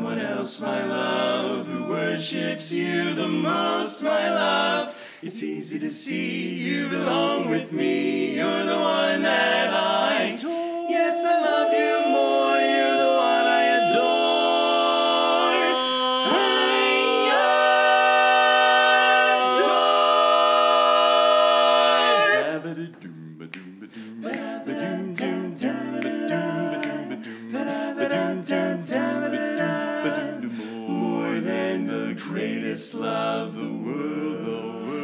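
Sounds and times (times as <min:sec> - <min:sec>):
male quartet singing a cappella: 0:00.0 - 0:35.0.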